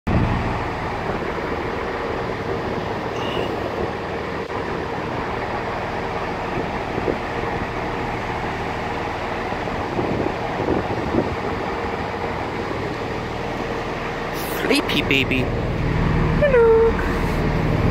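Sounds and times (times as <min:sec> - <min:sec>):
diesel train engine drone: 0:00.1 - 0:17.9.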